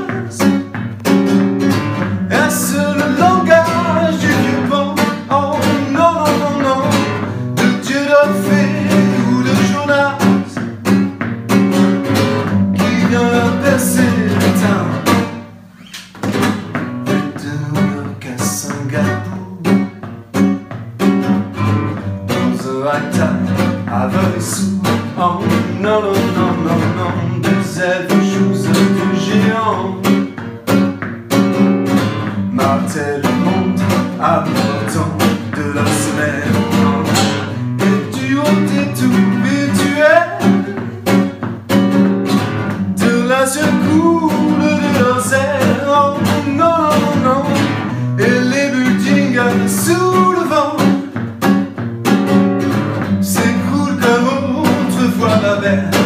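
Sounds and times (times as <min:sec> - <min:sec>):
man singing: 0:00.0 - 0:11.2, 0:12.0 - 0:15.5, 0:17.0 - 0:20.2, 0:21.5 - 0:30.8, 0:32.2 - 0:41.4, 0:42.7 - 0:52.3, 0:53.0 - 0:56.0
acoustic guitar strummed: 0:00.0 - 0:56.0.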